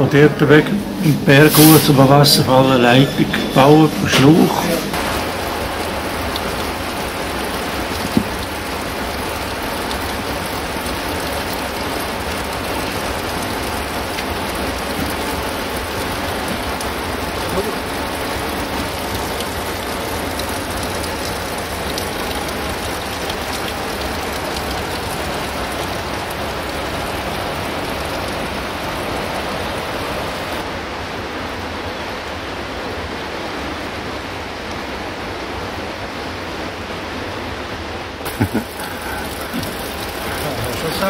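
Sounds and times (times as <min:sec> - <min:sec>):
water rushing: 0:00.0 - 0:41.0.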